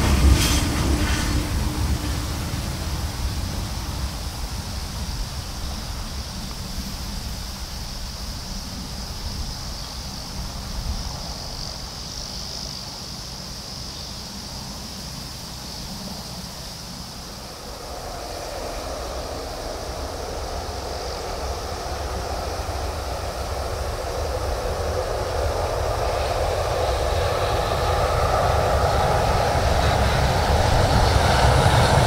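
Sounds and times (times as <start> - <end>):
freight train rumble: 0.0 - 32.0
high insect drone: 0.0 - 32.0.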